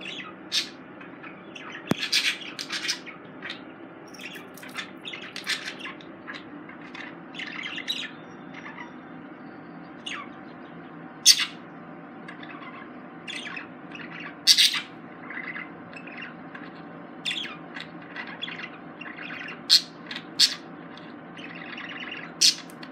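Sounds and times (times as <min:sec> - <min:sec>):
budgerigars chattering: 0:00.0 - 0:09.0, 0:11.2 - 0:11.6, 0:12.3 - 0:22.9
loud bird squawks: 0:00.0 - 0:09.0, 0:11.2 - 0:11.6, 0:12.4 - 0:16.4, 0:17.2 - 0:20.8, 0:21.4 - 0:22.8
steady low hum: 0:00.0 - 0:22.9.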